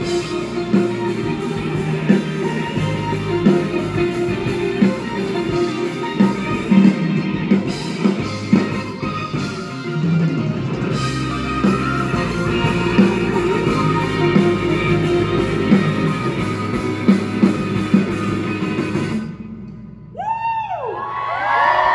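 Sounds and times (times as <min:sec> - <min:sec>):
crowd whooping: 0:00.0 - 0:19.2, 0:20.1 - 0:21.9
live band guitar and drums: 0:00.0 - 0:19.9.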